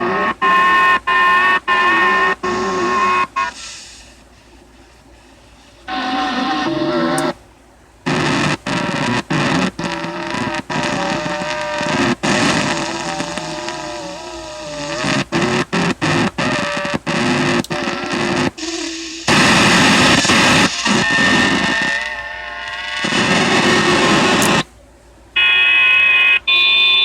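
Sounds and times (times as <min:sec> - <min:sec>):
loud burst of static: 0:00.0 - 0:04.6, 0:05.7 - 0:07.4, 0:08.0 - 0:24.7, 0:25.4 - 0:27.0
warbling radio signal tones: 0:00.0 - 0:07.4, 0:08.0 - 0:24.7, 0:25.4 - 0:27.0
radio hiss: 0:00.0 - 0:24.8, 0:25.4 - 0:27.0.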